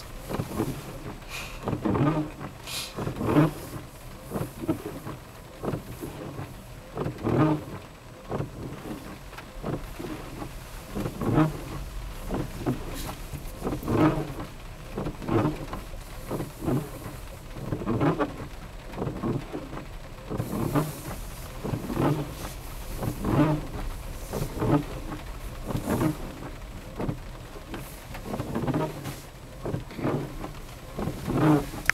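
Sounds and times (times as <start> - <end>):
rain on a car: 0.0 - 31.9.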